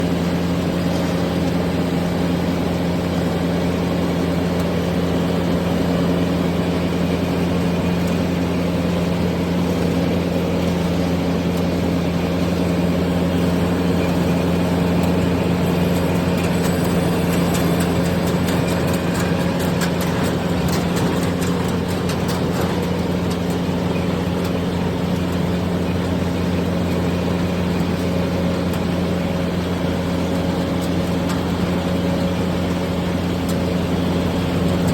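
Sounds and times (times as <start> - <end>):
combine harvester engine hum: 0.0 - 34.9.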